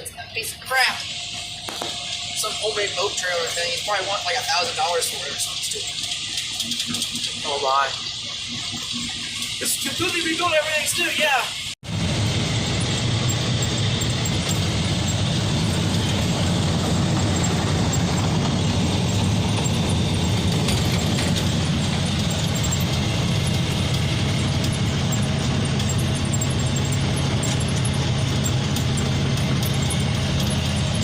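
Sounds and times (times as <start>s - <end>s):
vehicle engine hum with rattle: 0.0s - 10.2s, 11.6s - 31.0s.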